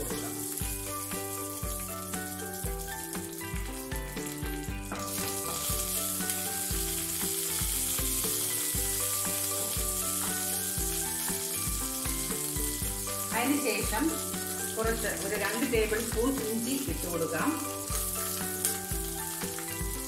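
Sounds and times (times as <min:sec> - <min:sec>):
background music with steady beat: 0:00.0 - 0:20.0
chillies sizzling in oil: 0:00.0 - 0:20.0.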